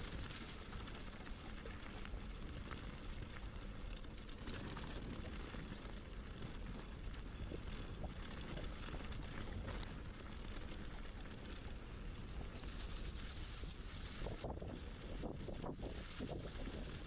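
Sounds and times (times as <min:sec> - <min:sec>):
bike tyres crunching over gravel: 0:00.0 - 0:17.0
wind rumble on microphone: 0:00.0 - 0:17.0.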